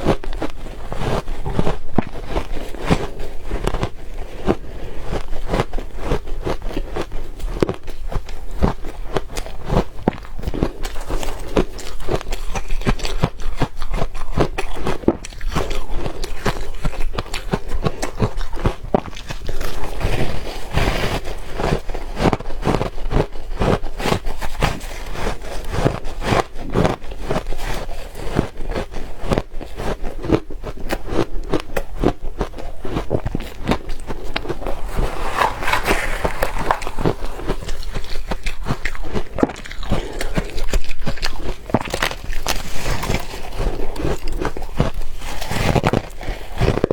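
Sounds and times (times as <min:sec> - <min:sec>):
crunching and chewing ice: 0:00.0 - 0:46.9.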